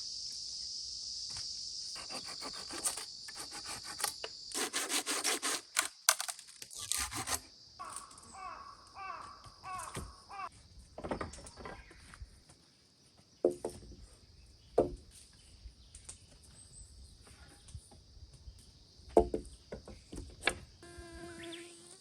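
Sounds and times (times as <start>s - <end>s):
insect drone: 0.0s - 12.4s, 16.6s - 22.0s.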